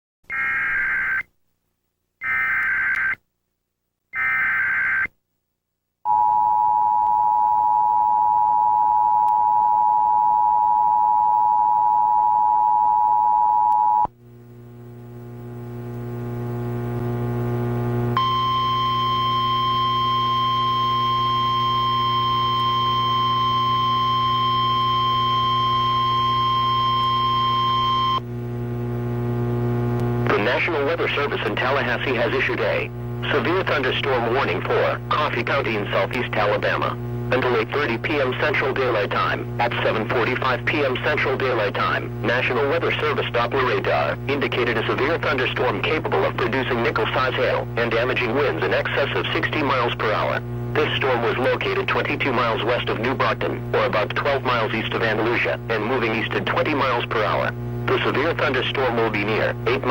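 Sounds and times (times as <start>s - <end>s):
low electrical hum: 6.1s - 59.9s.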